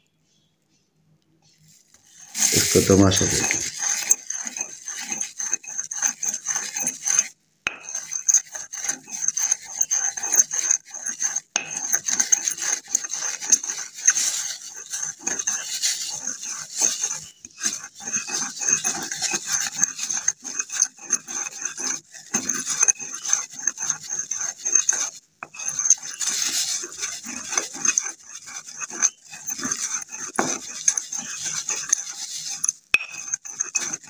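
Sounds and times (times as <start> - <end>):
pestle grinding in a mortar: 1.5 - 34.0.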